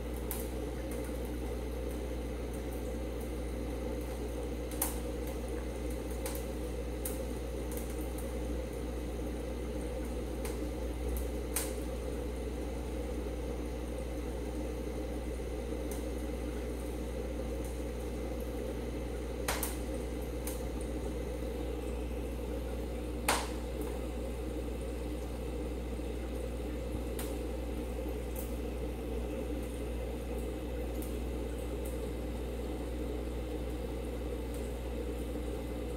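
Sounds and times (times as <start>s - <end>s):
aquarium air pump bubbling: 0.0s - 35.9s.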